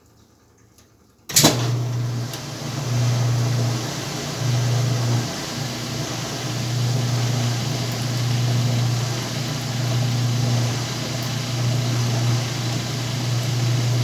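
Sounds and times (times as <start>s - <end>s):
washing machine running: 1.3s - 14.0s.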